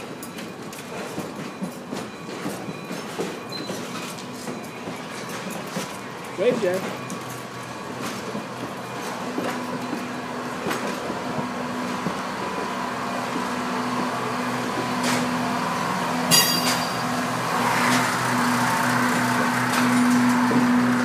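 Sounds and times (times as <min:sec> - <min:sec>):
train cars rolling hum: 0:00.0 - 0:21.0.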